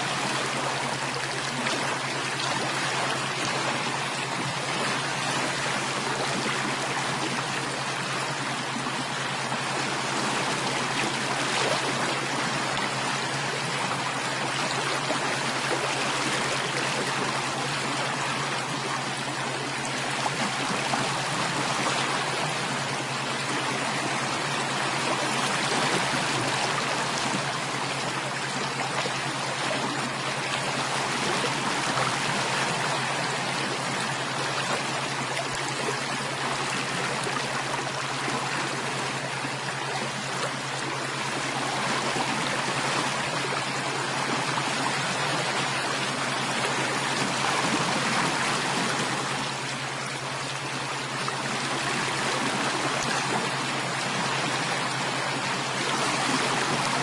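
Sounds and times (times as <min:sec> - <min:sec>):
steady low hum: 0:00.0 - 0:57.0
stream water babbling: 0:00.0 - 0:57.0.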